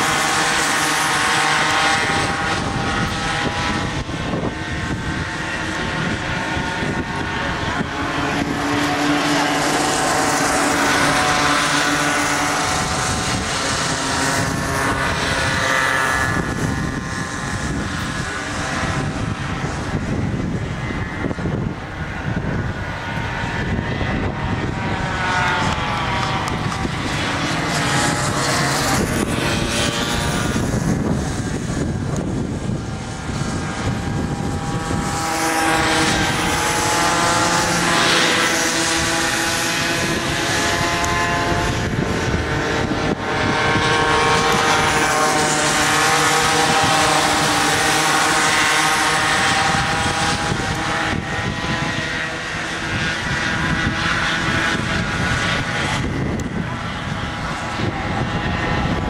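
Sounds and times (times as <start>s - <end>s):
kart engines buzzing: 0.0s - 59.0s.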